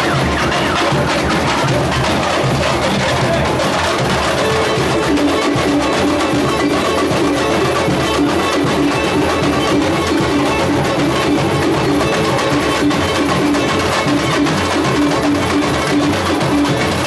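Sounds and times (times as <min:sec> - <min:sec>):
drums and percussion beat: 0:00.0 - 0:17.0
street band music over speakers: 0:00.0 - 0:17.0.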